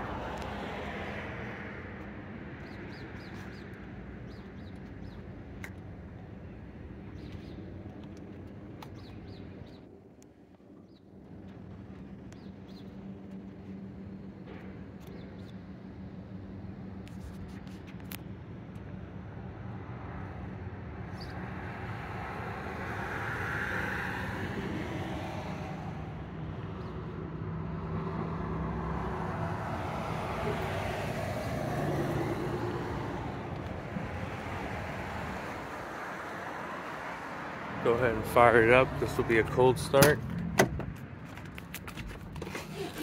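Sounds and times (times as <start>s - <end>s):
road traffic hum: 0.0s - 43.0s
vehicles passing: 0.0s - 43.0s.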